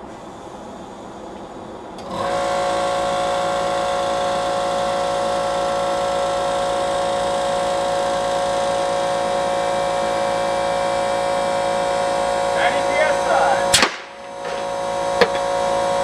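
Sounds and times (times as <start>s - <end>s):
motor whining: 2.0s - 16.0s.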